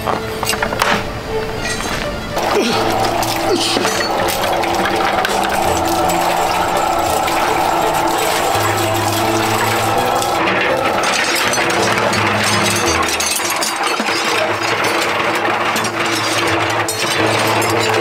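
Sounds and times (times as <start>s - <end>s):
horseshoes clattering in drum mixer: 0.0s - 18.0s.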